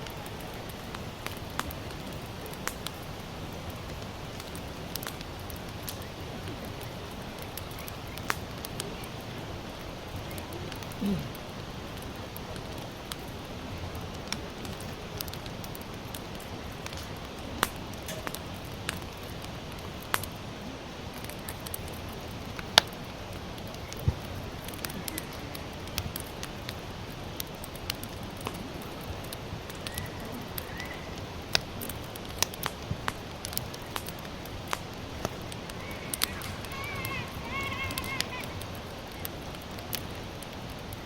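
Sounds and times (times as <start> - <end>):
campfire crackling and popping: 0.0 - 41.0
fire hissing: 0.0 - 41.0.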